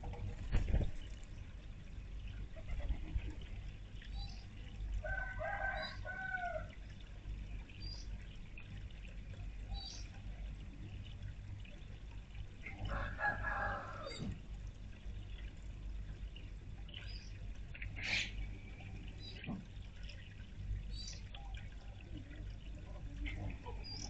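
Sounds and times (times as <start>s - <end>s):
fountain water spilling: 0.0s - 24.0s.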